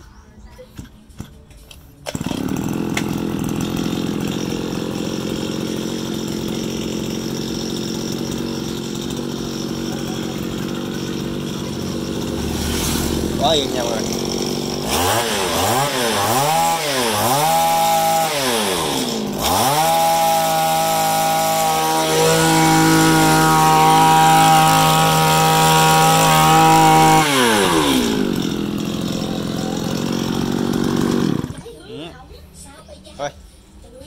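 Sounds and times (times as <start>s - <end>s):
brush cutter engine revving: 2.0s - 32.2s.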